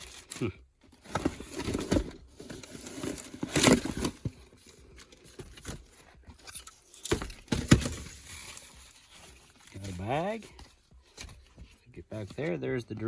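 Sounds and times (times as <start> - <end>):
packaging rustling and crinkling: 0.0 - 12.6.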